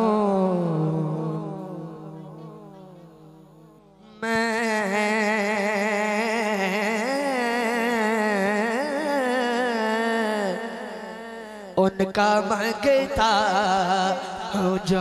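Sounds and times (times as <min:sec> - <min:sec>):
man singing a long held note: 0:00.0 - 0:15.0.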